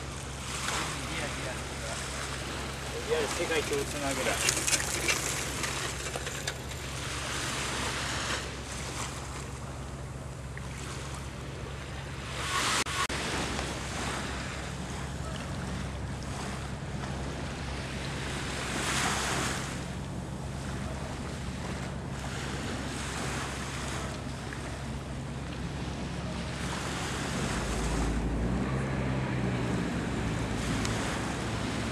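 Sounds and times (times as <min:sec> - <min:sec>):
low steady hum: 0:00.0 - 0:12.4, 0:13.0 - 0:31.9
small waves washing at shore: 0:00.0 - 0:31.9.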